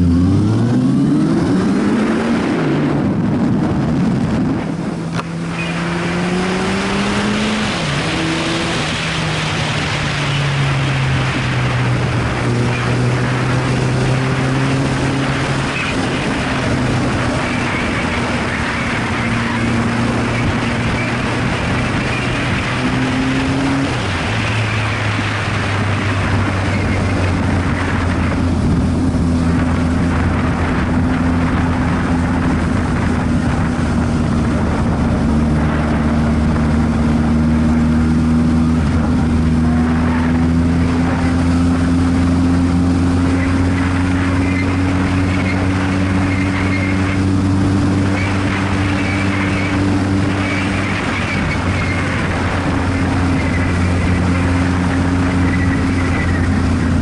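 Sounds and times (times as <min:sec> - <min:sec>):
wind and road noise: 0:00.0 - 0:57.0
motorcycle engine running: 0:02.4 - 0:57.0.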